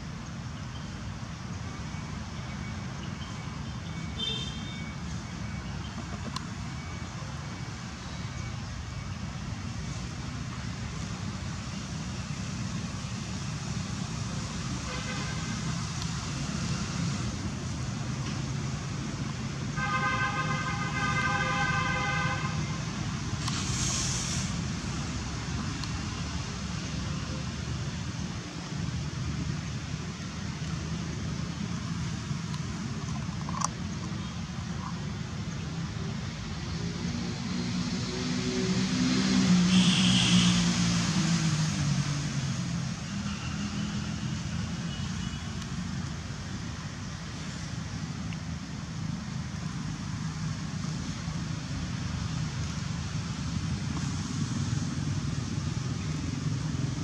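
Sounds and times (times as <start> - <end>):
distant road traffic rumble: 0.0 - 57.0.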